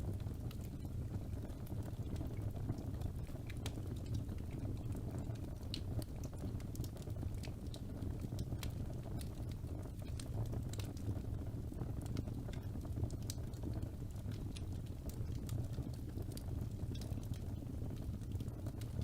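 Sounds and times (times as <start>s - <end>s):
logs crackling and popping: 0.0s - 19.0s
low rumble of flames: 0.0s - 19.0s.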